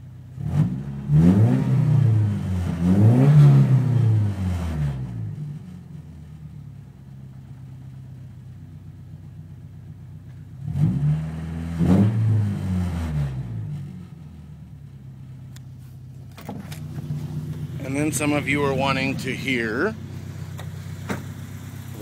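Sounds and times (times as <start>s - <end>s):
pickup engine idling and revving: 0.0s - 22.0s.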